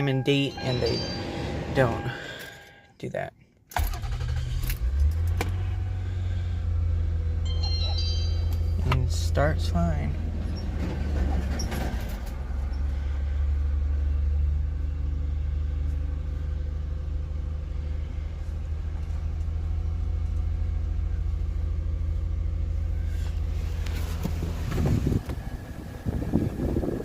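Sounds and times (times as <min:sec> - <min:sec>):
car engine idling: 0:03.8 - 0:27.0.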